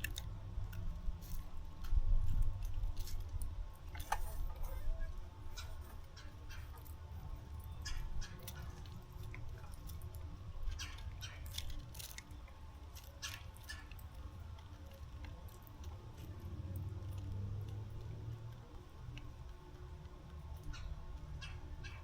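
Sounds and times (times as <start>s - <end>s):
birds pecking and cracking seed: 0.0s - 22.0s
steady low rumble: 0.0s - 22.0s.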